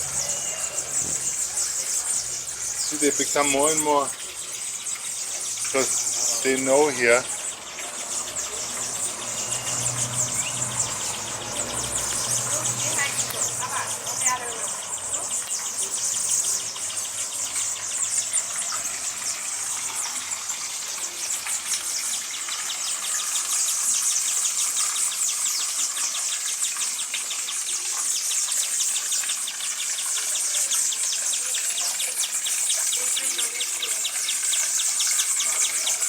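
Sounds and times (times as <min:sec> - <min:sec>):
hummingbirds twittering: 0:00.0 - 0:36.0
rapid ticking chips: 0:00.0 - 0:36.0.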